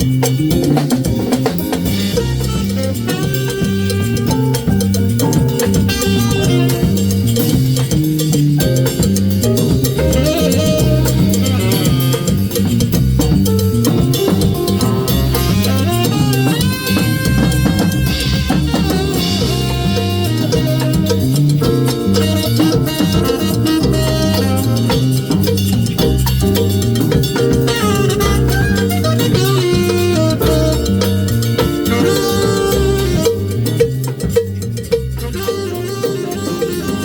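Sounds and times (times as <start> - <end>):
band playing jazz: 0.0 - 37.0.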